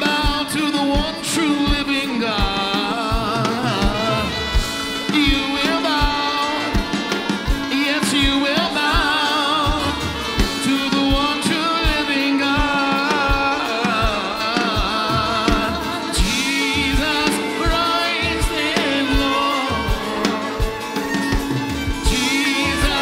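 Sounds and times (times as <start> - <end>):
steady drum beat: 0.0 - 23.0
people singing long notes: 3.1 - 23.0.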